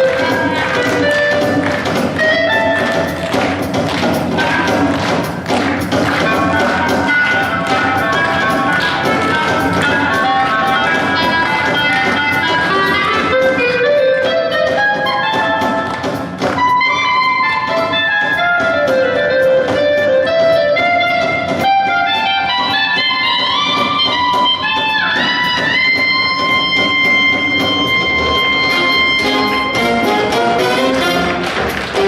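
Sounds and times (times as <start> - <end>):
instrumental ensemble melody: 0.0 - 32.0
plucked-string accompaniment: 0.0 - 32.0.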